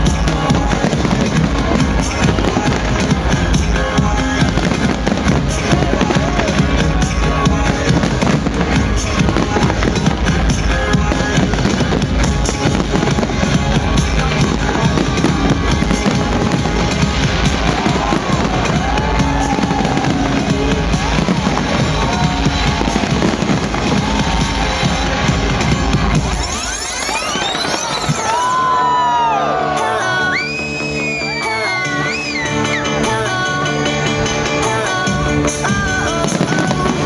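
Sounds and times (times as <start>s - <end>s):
fireworks bursting and crackling: 0.0s - 32.8s, 34.3s - 37.0s
loud music with bass beat: 0.0s - 37.0s.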